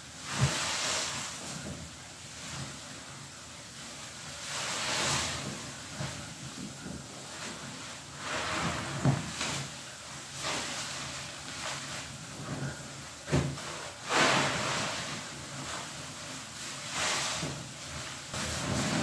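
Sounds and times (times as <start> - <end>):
sponge squishing in soap suds: 0.0 - 19.0.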